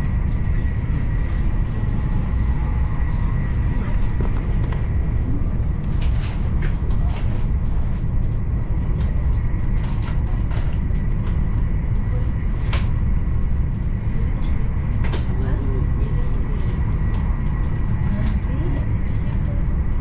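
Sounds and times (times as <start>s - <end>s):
train rumble inside cabin: 0.0s - 20.0s.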